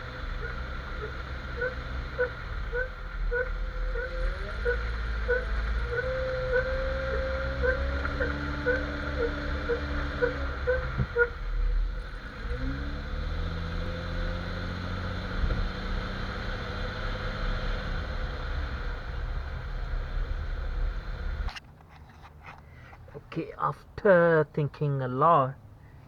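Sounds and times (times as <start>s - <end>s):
squeaking front end: 0.0s - 23.2s
car engine and road noise: 0.0s - 26.0s.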